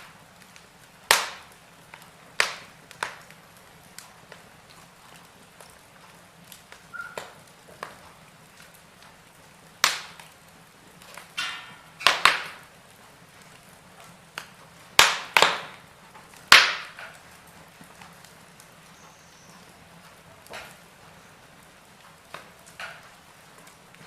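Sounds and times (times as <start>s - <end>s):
wood fire popping: 0.0s - 24.0s.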